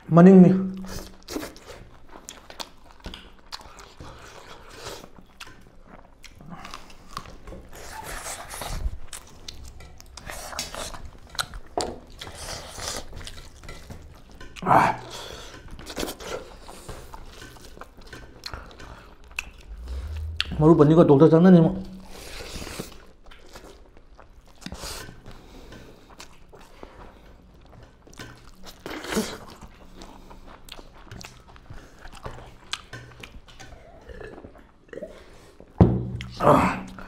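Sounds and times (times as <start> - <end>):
people chewing food: 0.7 - 20.6, 21.8 - 37.0.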